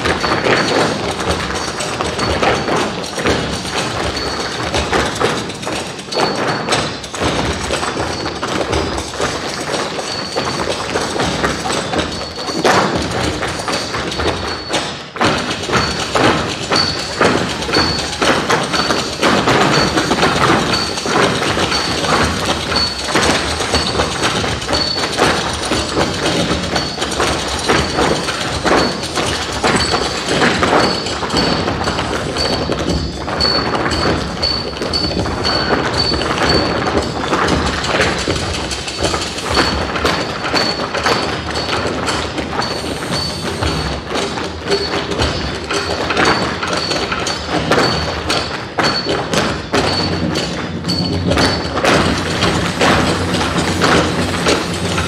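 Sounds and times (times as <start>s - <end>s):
feet stomping and tapping on stage: 0.0s - 55.0s
music: 0.0s - 55.0s.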